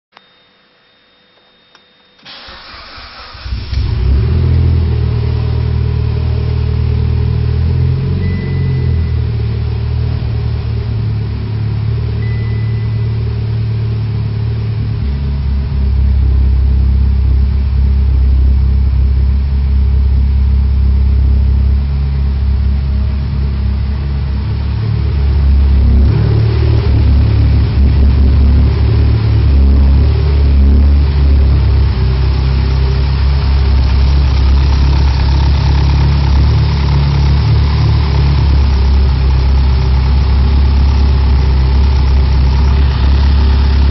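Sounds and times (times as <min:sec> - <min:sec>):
car engine starting and idling: 0:02.2 - 0:43.9.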